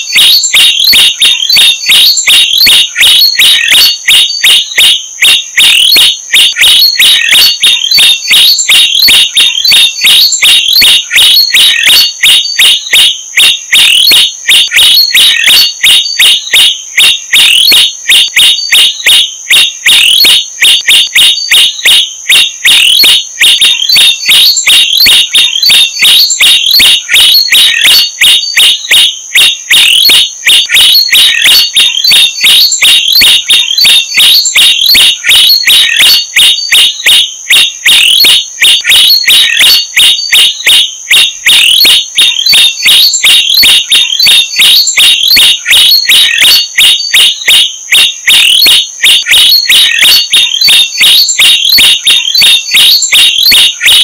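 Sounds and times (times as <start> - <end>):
high-pitched bird chirps: 0.0 - 54.0.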